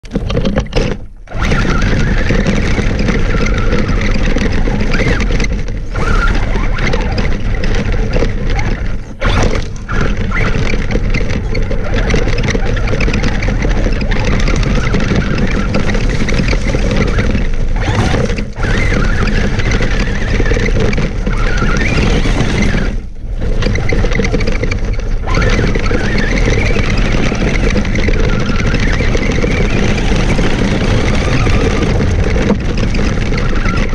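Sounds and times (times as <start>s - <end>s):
tyres crunching on gravel: 1.0s - 33.9s
electric motor whine: 1.3s - 33.9s.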